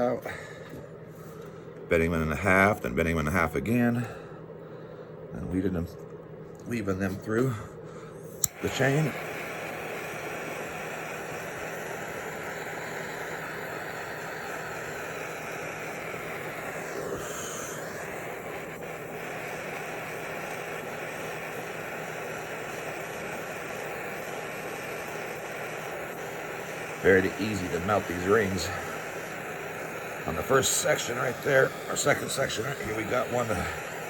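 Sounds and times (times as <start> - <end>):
soldering torch flame hissing: 0.0 - 34.0.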